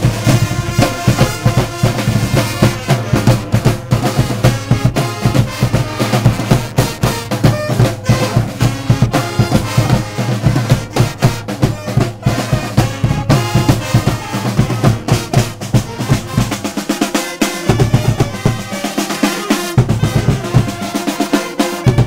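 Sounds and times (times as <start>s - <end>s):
brass band playing: 0.0s - 22.0s
snare and bass drums: 0.0s - 22.0s.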